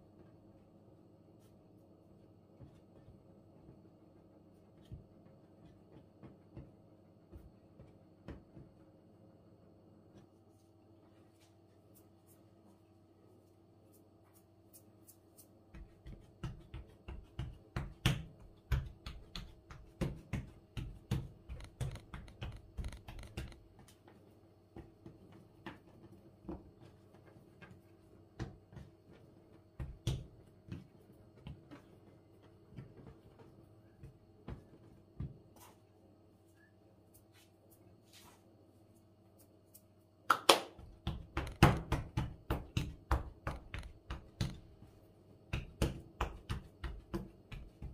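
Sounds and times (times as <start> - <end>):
hands patting dough on wooden table: 1.3 - 9.1, 13.7 - 36.0, 39.0 - 47.9.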